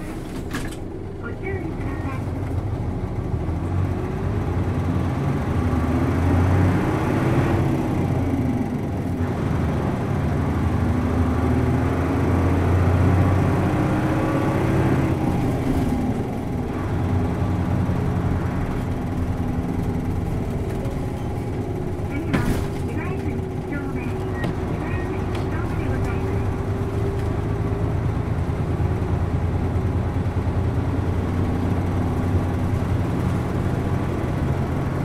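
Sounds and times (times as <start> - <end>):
bus engine accelerating: 0.0 - 35.0.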